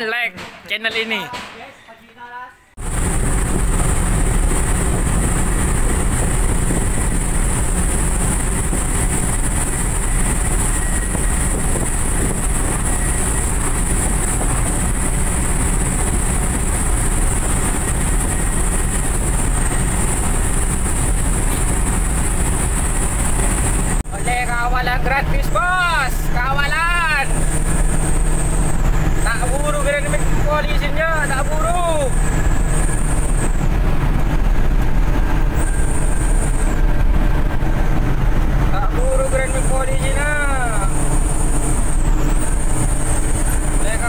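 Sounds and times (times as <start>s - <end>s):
vehicle cabin driving noise: 2.8s - 44.0s.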